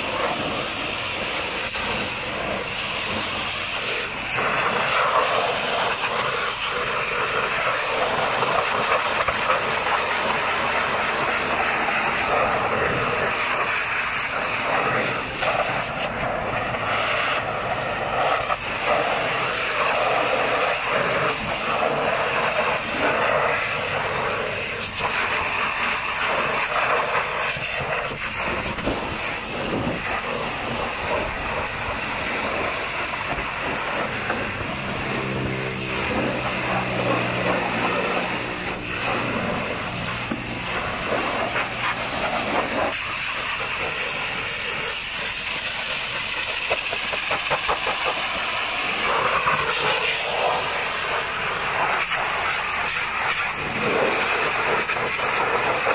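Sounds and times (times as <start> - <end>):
pressure washer jet hissing: 0.0 - 55.9.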